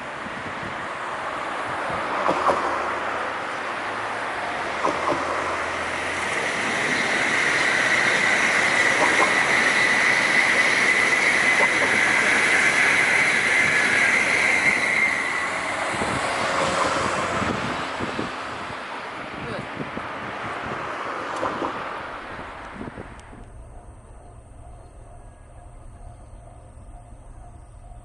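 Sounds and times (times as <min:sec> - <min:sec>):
high whine of train: 0:00.0 - 0:28.0
train wheels rushing on rail: 0:00.0 - 0:28.0.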